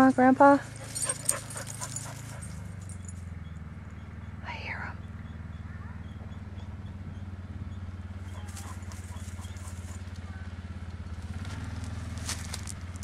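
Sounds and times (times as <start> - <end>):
vehicle engine running low: 0.0 - 13.0.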